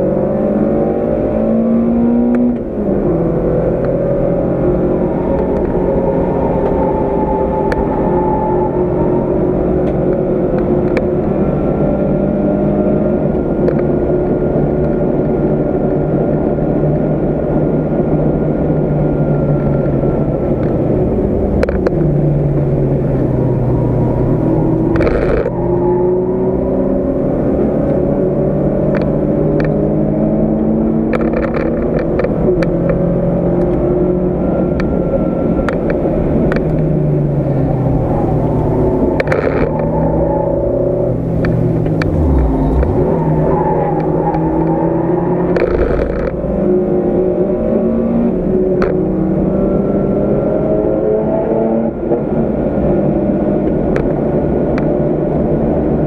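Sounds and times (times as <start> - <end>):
car engine revving: 0.0 - 56.0
wind and tyre noise: 0.0 - 56.0.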